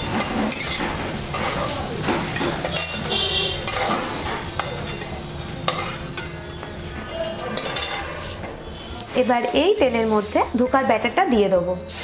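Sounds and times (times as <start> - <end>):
spatula scraping metal pan: 0.0 - 6.4, 7.1 - 10.6
hot oil sizzling: 0.0 - 11.2, 11.8 - 12.0.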